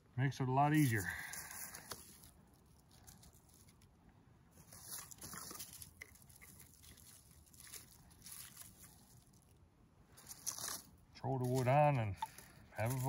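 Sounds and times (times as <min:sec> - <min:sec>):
sticks rustling and knocking: 0:00.7 - 0:13.0.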